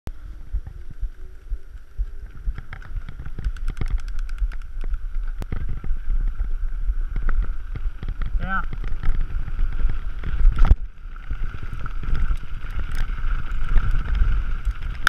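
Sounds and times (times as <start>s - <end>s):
wind buffeting microphone: 0.1s - 15.0s
bike rolling over cobblestones: 0.3s - 15.0s.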